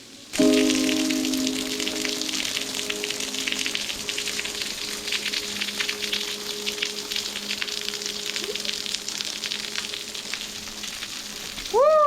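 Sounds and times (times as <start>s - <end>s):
waterfall splashing: 0.2s - 12.0s.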